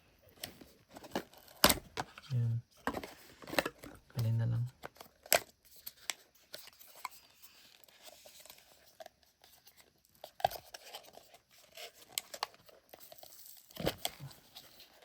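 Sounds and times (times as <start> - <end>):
packaging rustling and crinkling: 0.3 - 15.0.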